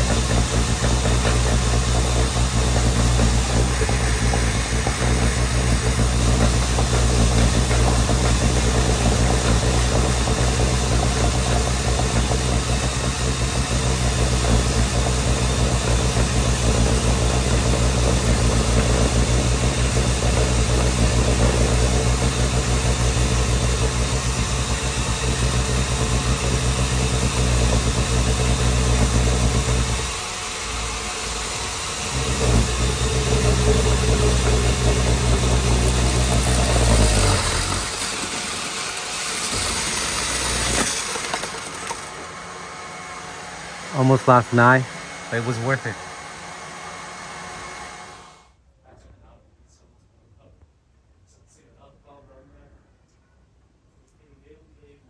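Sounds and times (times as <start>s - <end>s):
electric drill running: 0.0s - 48.5s.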